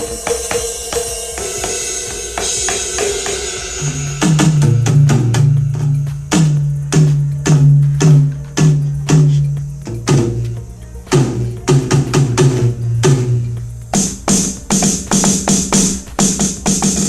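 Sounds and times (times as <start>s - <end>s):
electronic drum strokes: 0.0s - 17.0s
ringing cymbal wash: 0.0s - 17.0s.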